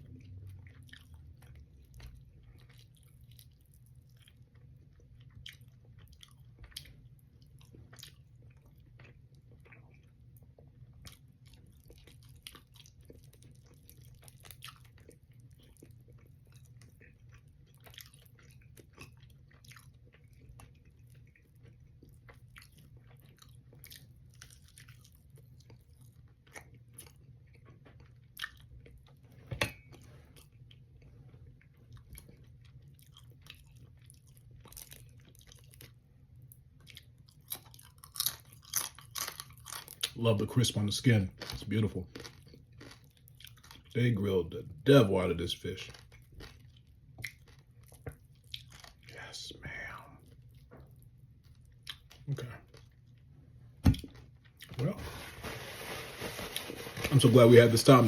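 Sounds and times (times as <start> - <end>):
close chewing with wet mouth noises: 0.0 - 40.4, 41.3 - 44.3, 45.4 - 53.4.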